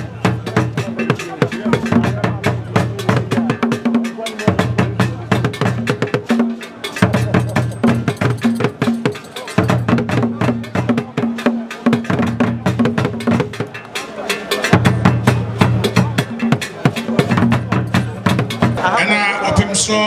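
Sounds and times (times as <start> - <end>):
drums: 0.0 - 20.0.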